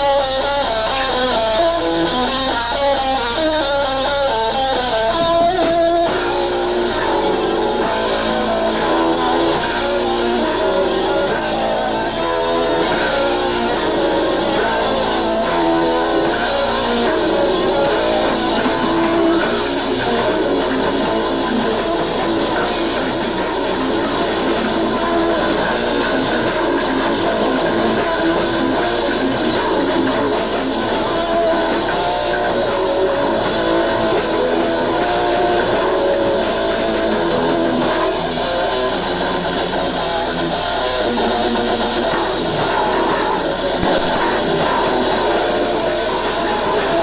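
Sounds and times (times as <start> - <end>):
death metal band playing: 0.0 - 47.0.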